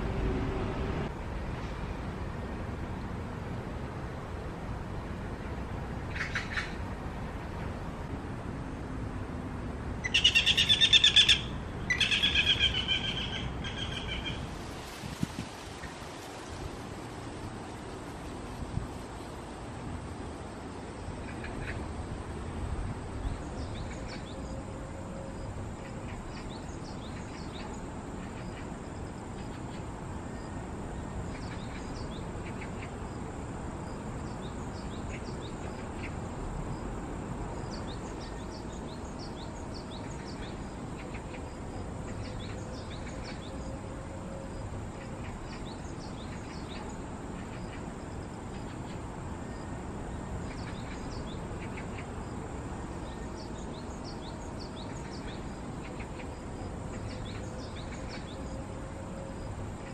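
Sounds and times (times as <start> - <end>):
low background noise: 0.0 - 59.9.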